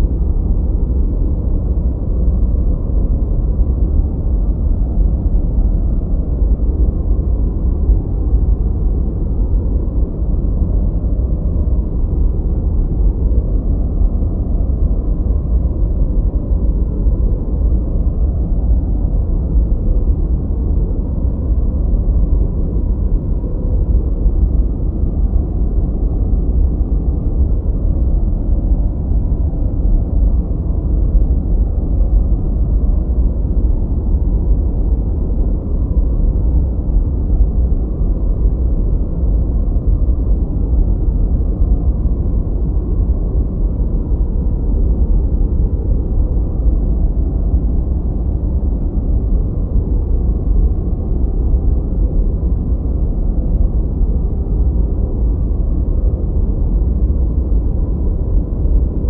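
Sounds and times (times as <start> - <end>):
deep low generated noise: 0.0 - 59.0.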